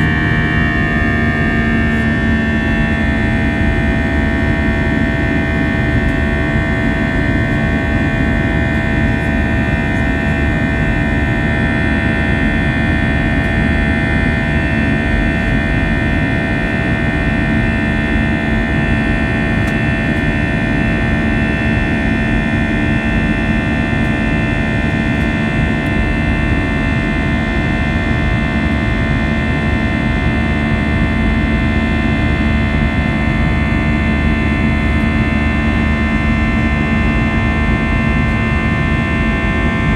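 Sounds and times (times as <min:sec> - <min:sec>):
jet engines in cabin: 0:00.0 - 0:39.9.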